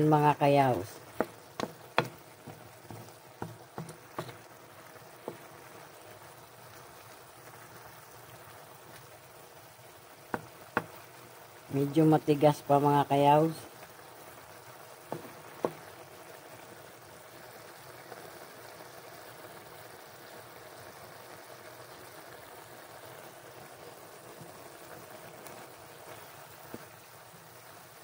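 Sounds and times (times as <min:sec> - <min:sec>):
food simmering in a wok: 0:00.0 - 0:28.0.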